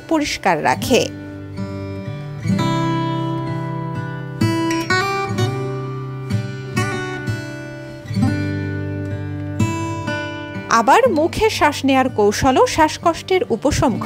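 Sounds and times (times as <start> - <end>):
acoustic guitar strumming chords: 0.8 - 14.0.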